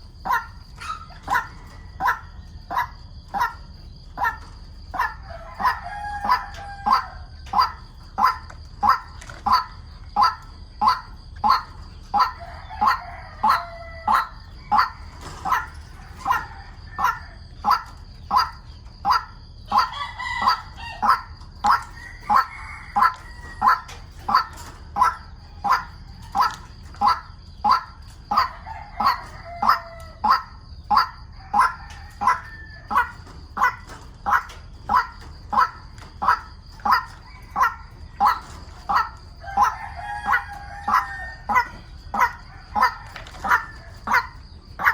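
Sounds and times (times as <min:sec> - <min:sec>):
bird warbling calls: 0:00.0 - 0:44.9.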